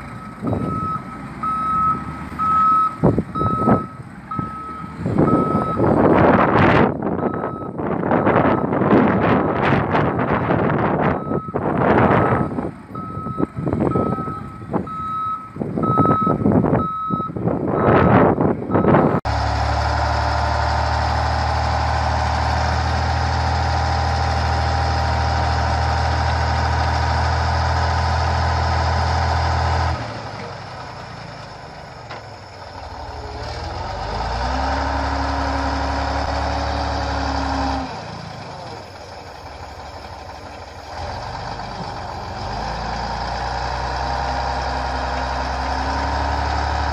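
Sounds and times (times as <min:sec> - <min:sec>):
truck reversing beeper: 0:00.0 - 0:10.2, 0:10.8 - 0:26.6, 0:28.0 - 0:46.9
heavy truck engine running: 0:00.0 - 0:46.9.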